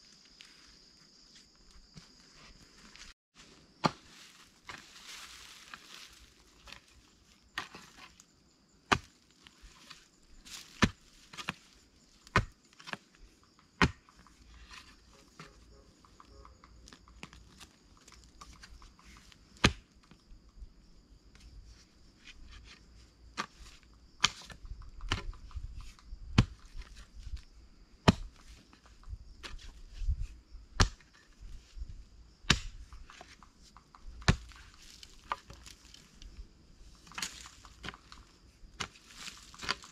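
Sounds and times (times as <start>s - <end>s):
hoe striking soil: 3.7s - 20.2s, 22.2s - 27.4s, 28.0s - 39.9s.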